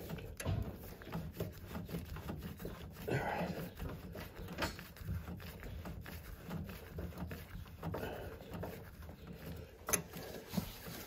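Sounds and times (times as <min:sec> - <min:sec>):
rustling and scraping on pipe: 0:00.0 - 0:11.0.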